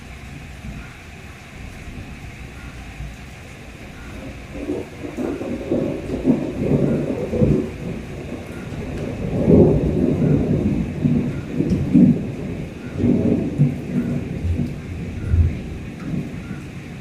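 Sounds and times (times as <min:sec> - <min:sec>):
steady rain: 0:00.0 - 0:17.0
rolling thunder: 0:01.6 - 0:17.0.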